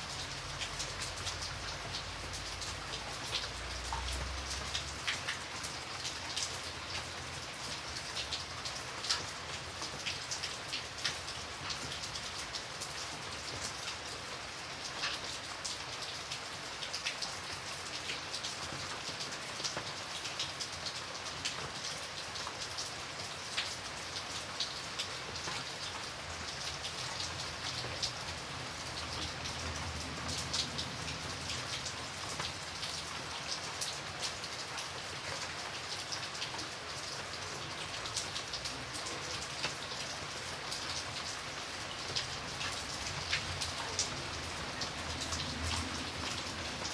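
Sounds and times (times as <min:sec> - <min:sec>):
light rain pattering: 0:00.0 - 0:46.9.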